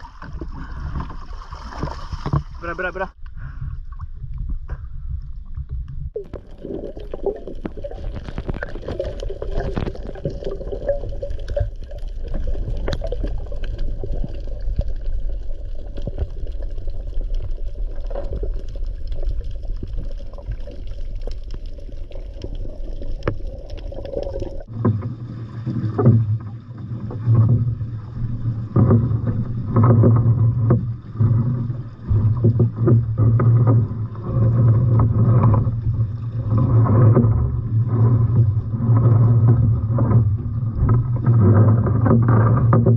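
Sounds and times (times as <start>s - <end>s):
wind and water rumble: 0.0s - 42.9s.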